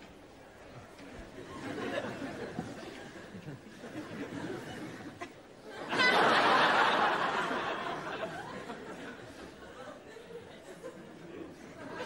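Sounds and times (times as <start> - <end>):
murmur of audience: 0.0 - 12.0
audience laughing: 1.4 - 12.0.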